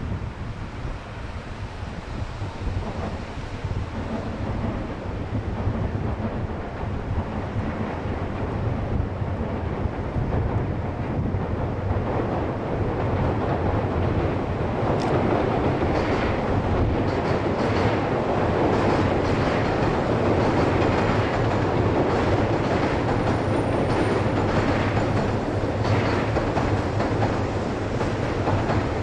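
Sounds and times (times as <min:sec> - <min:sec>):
train wheels rumbling on bridge: 0:00.0 - 0:29.0
rail joint clacks: 0:02.3 - 0:29.0.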